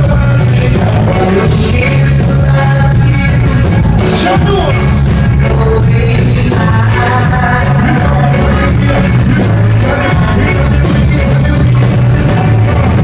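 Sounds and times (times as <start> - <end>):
heavy bass line: 0.0 - 13.0
person singing: 0.0 - 13.0
steady drum beat: 0.0 - 13.0.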